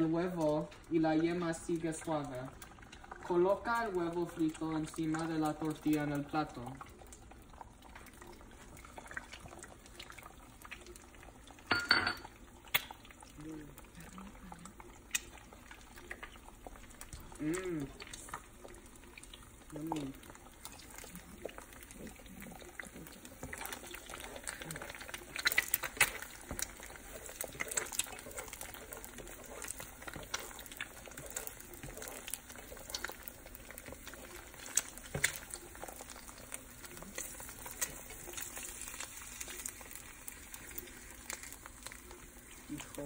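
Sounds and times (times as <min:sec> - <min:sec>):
eggs frying in oil: 0:00.0 - 0:43.0
crackling and pops: 0:01.6 - 0:43.0.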